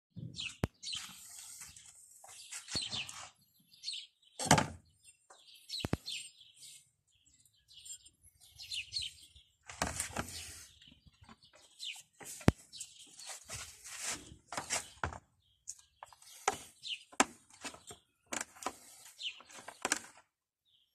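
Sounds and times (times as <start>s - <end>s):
small birds chirping: 0.2s - 20.9s.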